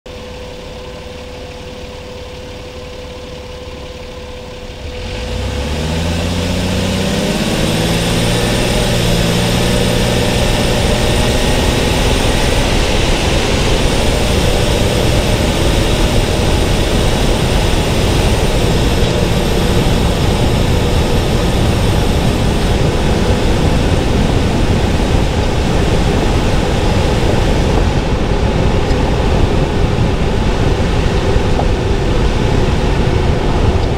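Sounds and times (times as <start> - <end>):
car engine idling and accelerating: 0.1 - 33.9
road and wind noise: 0.1 - 33.9.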